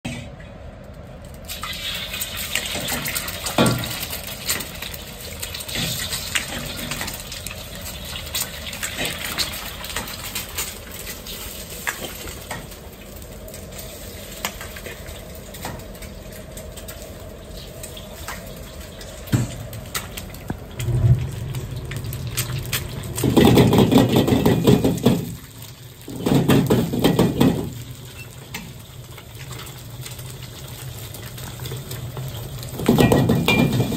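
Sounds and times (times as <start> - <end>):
eggs frying in a wok: 0.6 - 33.9.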